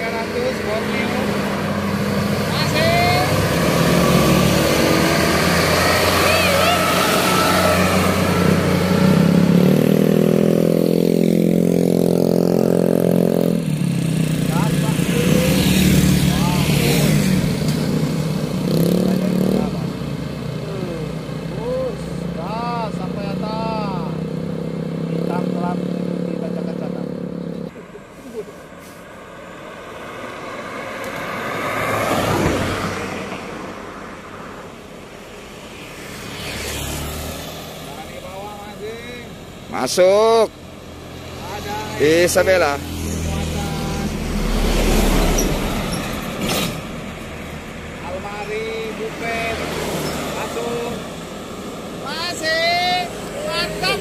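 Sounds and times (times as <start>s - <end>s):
car passing by: 0.0s - 13.2s, 14.5s - 24.0s, 28.2s - 40.5s, 41.1s - 54.0s
diesel truck engine: 0.0s - 54.0s
tyre and road noise: 0.0s - 54.0s.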